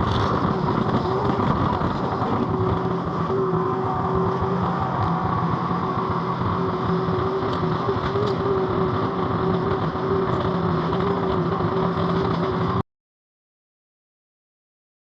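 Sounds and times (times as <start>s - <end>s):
small engine running with whine: 0.0s - 12.8s.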